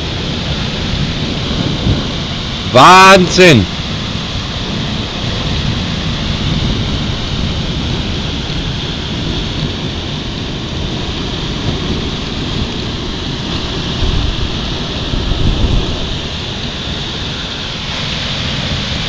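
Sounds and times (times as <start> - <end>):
hail and rain pelting down: 0.0 - 19.0.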